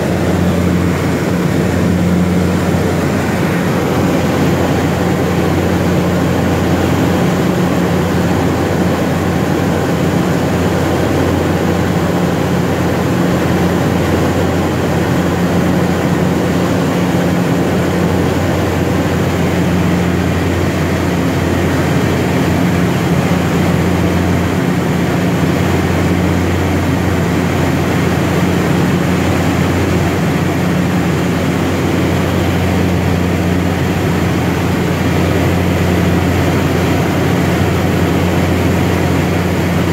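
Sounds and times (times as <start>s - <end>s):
turboprop plane cabin drone: 0.0s - 39.9s.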